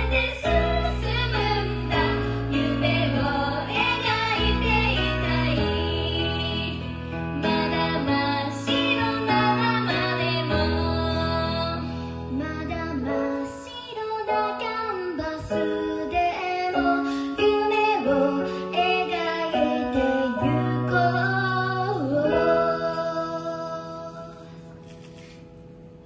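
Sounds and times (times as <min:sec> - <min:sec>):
woman singing: 0:00.0 - 0:24.4.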